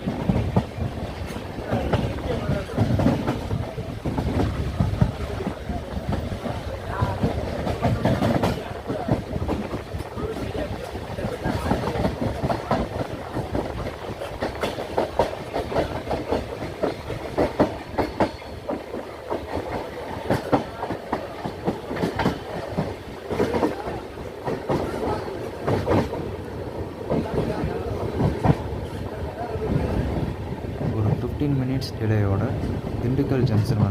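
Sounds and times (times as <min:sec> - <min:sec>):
passenger train rumbling on rails: 0:00.0 - 0:33.9.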